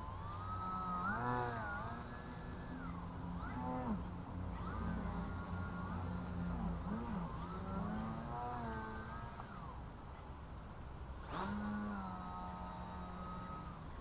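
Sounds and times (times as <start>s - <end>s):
electric model plane buzzing: 0.0s - 14.0s
thin high whine: 0.0s - 14.0s.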